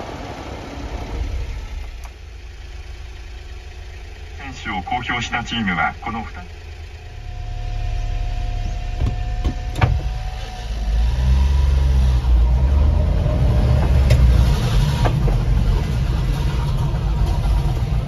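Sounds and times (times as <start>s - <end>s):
small truck engine accelerating: 0.0s - 18.0s.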